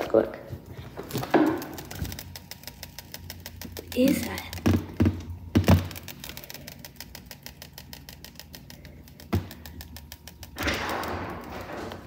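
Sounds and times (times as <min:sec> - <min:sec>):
freezer rapid clicking: 0:01.0 - 0:12.0.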